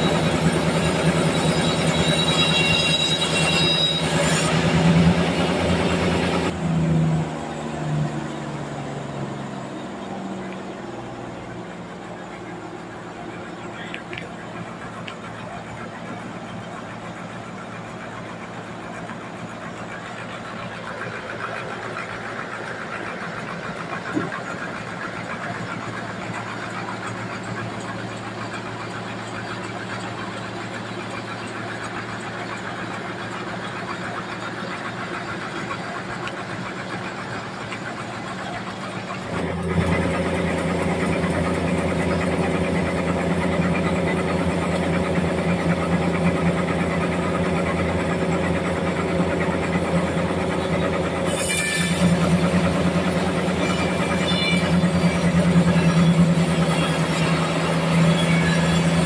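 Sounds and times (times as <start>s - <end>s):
band sawmill sawing log: 0.0s - 59.0s.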